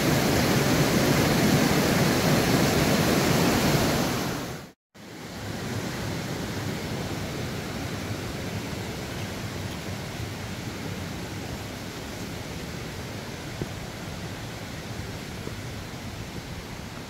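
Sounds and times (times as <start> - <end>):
soft outdoor rushing hiss: 0.0 - 17.0
waterfall rushing: 0.0 - 17.0.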